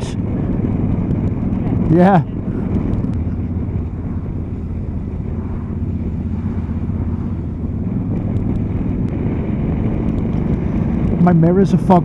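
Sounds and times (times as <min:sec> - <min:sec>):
motorcycle engine running: 0:00.0 - 0:12.0
road rumble: 0:00.0 - 0:12.0
wind: 0:00.0 - 0:12.0.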